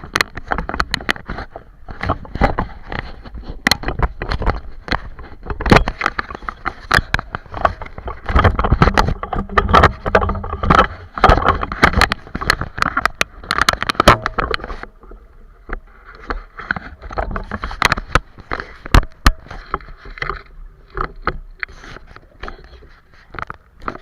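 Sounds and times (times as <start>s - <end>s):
water slapping boat hull: 0.0s - 24.0s.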